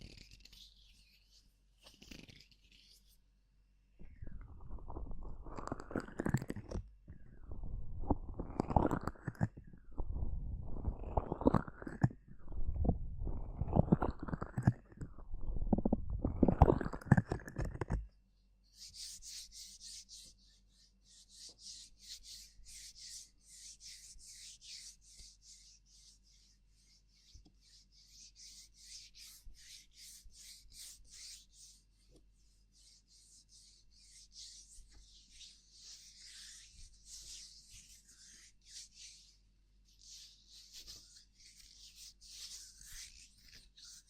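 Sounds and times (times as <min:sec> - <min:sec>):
scratchy rubbing strokes: 0:00.0 - 0:03.2, 0:04.0 - 0:18.0, 0:18.6 - 0:44.0.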